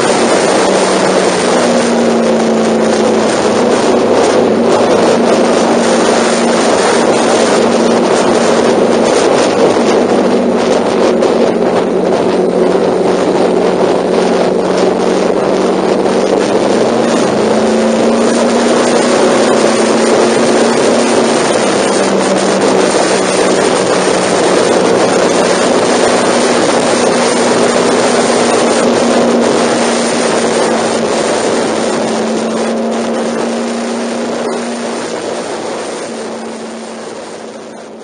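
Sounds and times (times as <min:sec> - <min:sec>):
motorcycle engine running: 0:00.0 - 0:38.0
wind rushing over microphone: 0:00.0 - 0:38.0.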